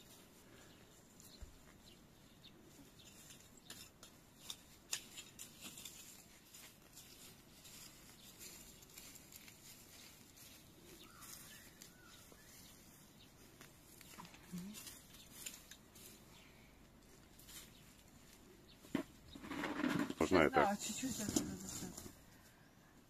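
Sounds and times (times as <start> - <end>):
soil scraping and crackling: 1.8 - 16.6, 17.3 - 22.2.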